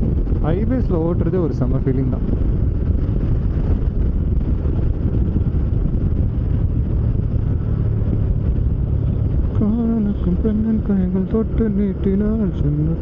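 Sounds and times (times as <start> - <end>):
motorcycle engine and road drone: 0.0 - 13.0
wind rushing over microphone: 0.0 - 13.0.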